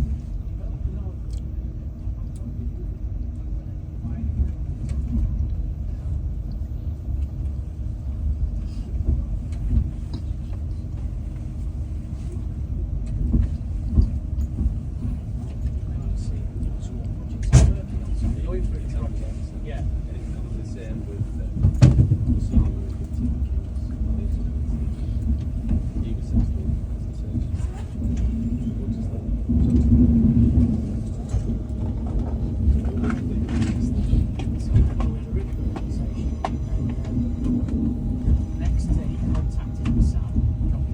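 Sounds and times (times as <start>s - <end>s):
passenger train rumble: 0.0s - 40.9s.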